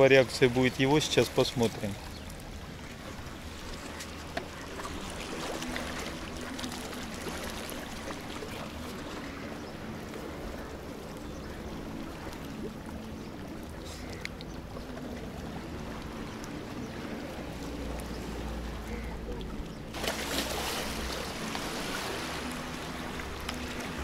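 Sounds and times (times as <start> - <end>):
water washing over rocks: 0.0 - 11.2, 11.9 - 24.0.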